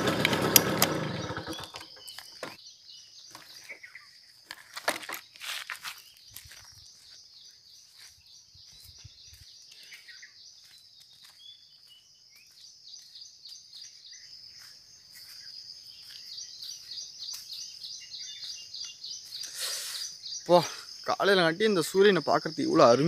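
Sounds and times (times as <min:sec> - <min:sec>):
bird chirps: 0:01.0 - 0:23.0
insects trilling: 0:01.0 - 0:23.0.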